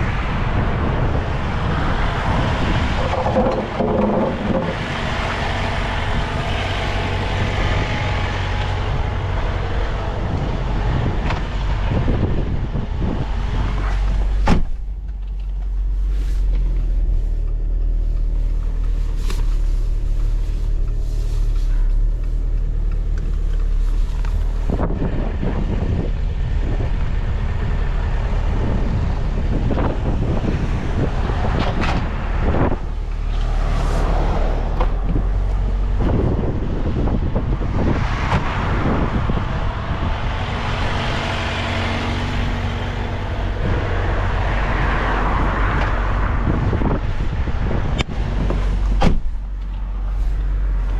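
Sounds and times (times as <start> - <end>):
road and tyre noise: 0.0 - 50.9
truck engine hum: 0.0 - 50.9.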